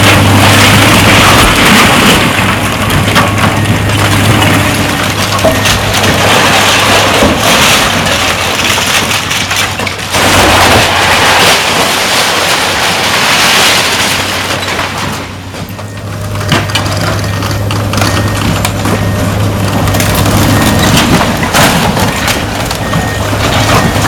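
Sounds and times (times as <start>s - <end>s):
collapsing timber and rubble crashing: 0.0s - 24.0s
excavator engine hum: 0.0s - 24.0s.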